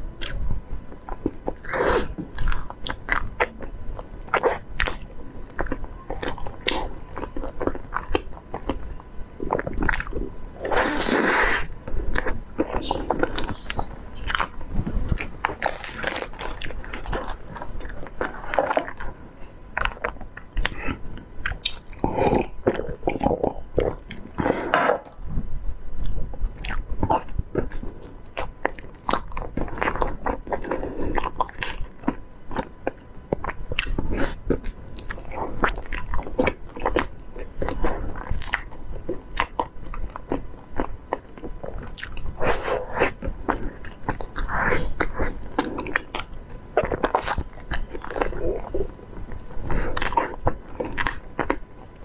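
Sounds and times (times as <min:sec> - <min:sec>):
person chewing pastry: 0:00.0 - 0:25.2, 0:25.8 - 0:52.0.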